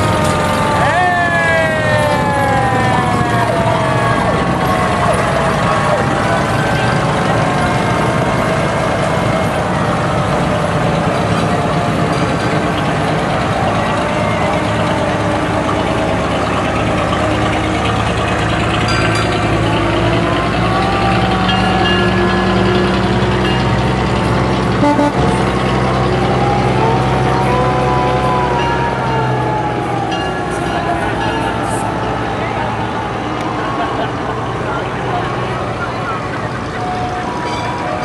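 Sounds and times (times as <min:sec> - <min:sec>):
fire truck engines running: 0:00.0 - 0:38.0
fire truck siren: 0:00.0 - 0:38.0.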